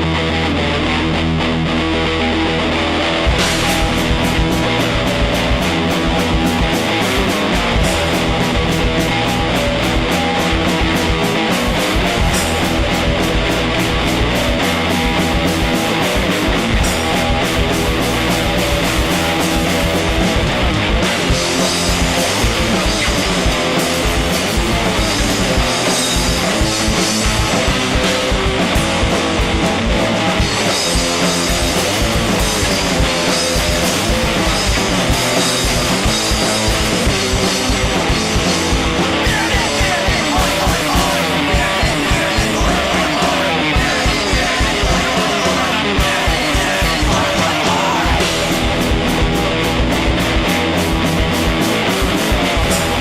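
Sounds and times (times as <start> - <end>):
punk rock band playing: 0.0 - 53.0.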